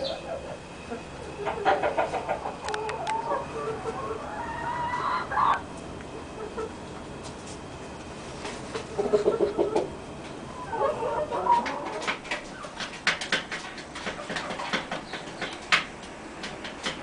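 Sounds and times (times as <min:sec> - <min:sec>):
hen clucking: 0:00.0 - 0:07.0, 0:08.7 - 0:15.8.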